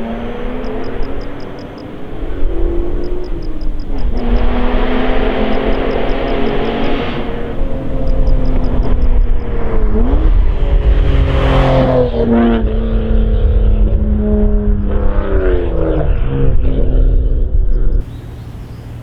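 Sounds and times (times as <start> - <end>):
car engine accelerating and shifting: 0.0 - 19.0.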